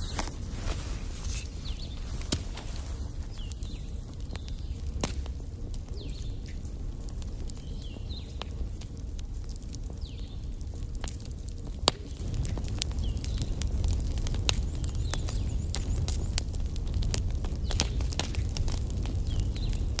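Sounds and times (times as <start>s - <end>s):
fire low rumble: 0.0s - 20.0s
wood fire crackling: 0.0s - 20.0s.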